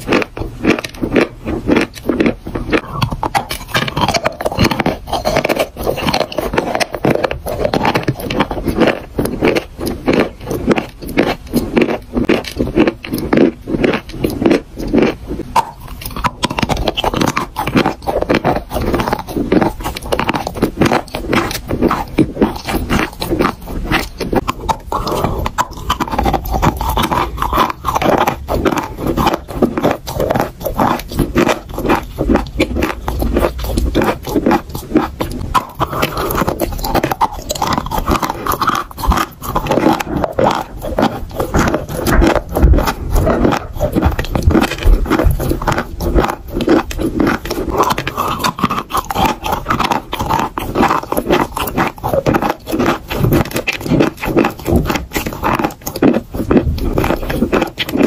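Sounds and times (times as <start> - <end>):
gritty crunching chewing: 0.0 - 58.0.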